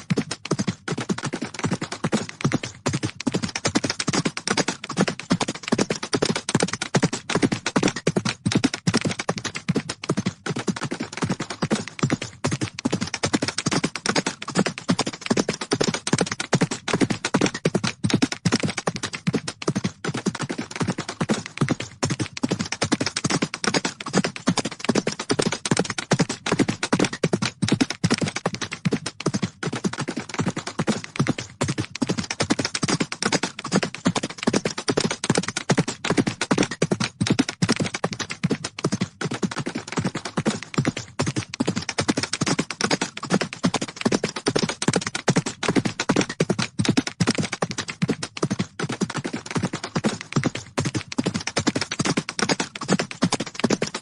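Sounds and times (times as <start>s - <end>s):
horses galloping: 0.0s - 54.0s.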